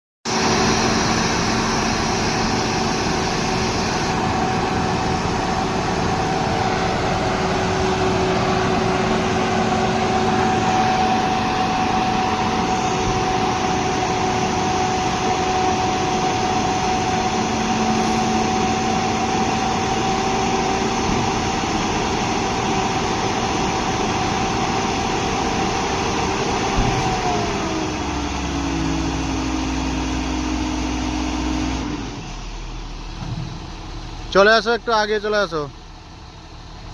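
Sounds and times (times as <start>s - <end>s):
heavy machine engine running: 0.3s - 36.9s.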